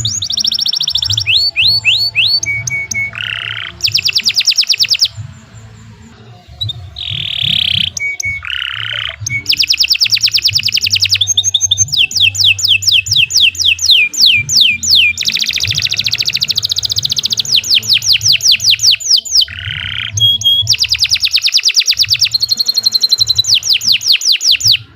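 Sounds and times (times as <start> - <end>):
canary singing trills and whistles: 0.0 - 24.9.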